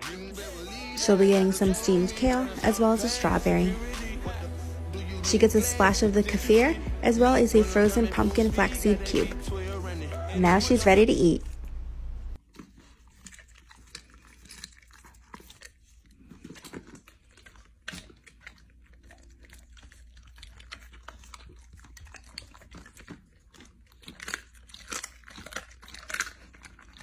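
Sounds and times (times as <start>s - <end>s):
dog chewing and crunching food: 0.0s - 27.0s.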